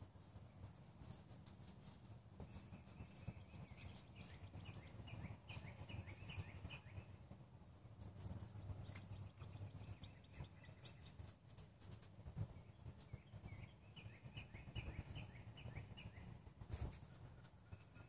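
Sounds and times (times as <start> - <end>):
small bird chirping: 0.2 - 7.4, 8.0 - 18.0.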